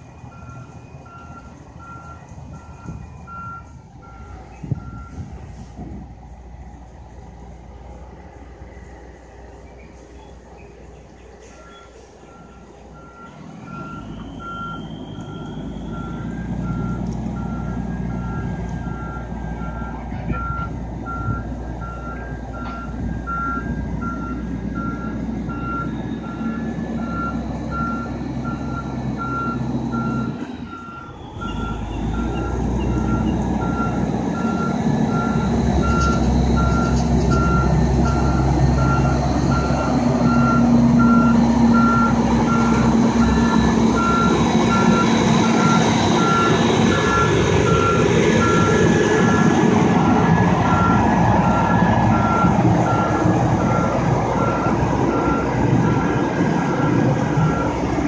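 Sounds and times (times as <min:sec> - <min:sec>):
diesel engine rumble: 0:00.0 - 0:58.0
truck reverse alarm beeping: 0:00.0 - 0:58.0.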